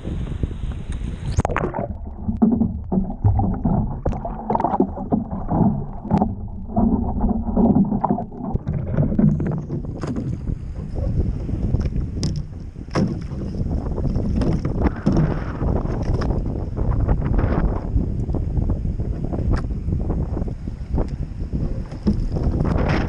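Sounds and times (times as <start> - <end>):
water sloshing and splashing: 0.0 - 17.9, 20.8 - 23.0
muffled water gurgling: 0.0 - 23.0
wind buffeting microphone: 0.0 - 23.0.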